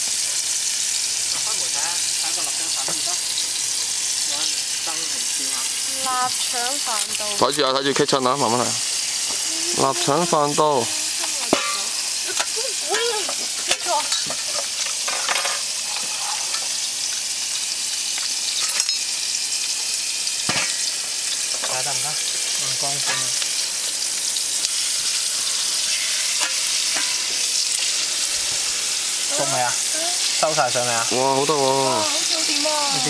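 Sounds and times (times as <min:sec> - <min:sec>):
steak sizzling in a frying pan: 0:00.0 - 0:33.0.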